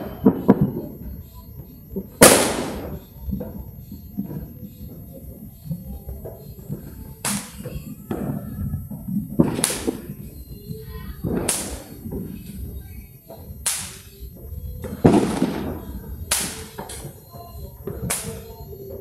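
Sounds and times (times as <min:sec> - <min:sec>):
firework hiss: 0:00.0 - 0:18.8
fireworks cracking: 0:00.0 - 0:19.0.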